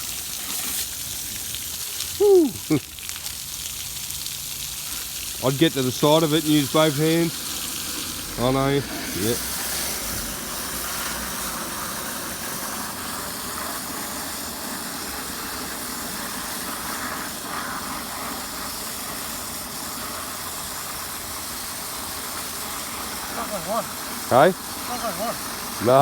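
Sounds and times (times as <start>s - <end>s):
water hissing from pipe: 0.0s - 26.0s.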